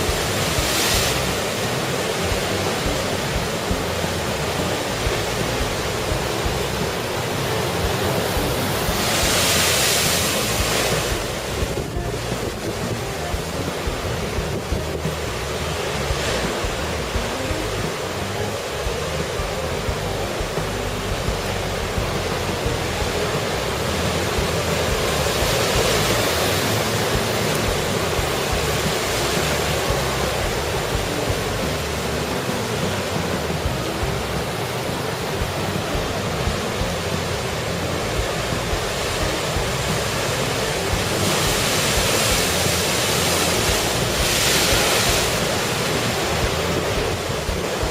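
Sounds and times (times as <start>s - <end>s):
large waves breaking: 0.0s - 47.9s.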